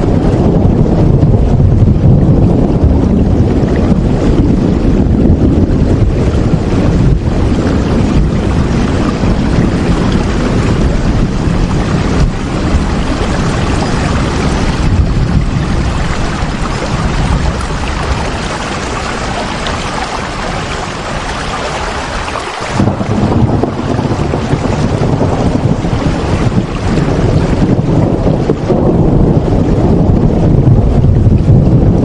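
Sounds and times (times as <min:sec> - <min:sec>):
heavy rain with wind: 0:00.0 - 0:32.0.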